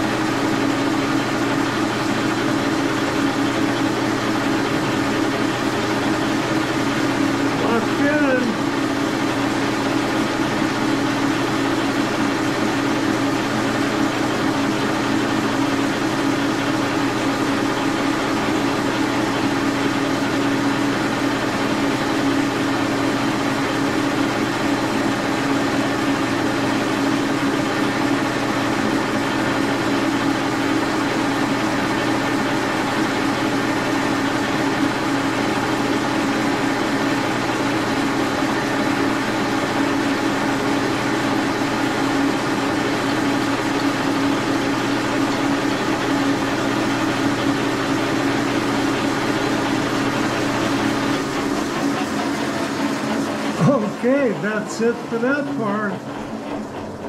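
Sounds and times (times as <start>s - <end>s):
milling machine humming: 0.0s - 57.0s.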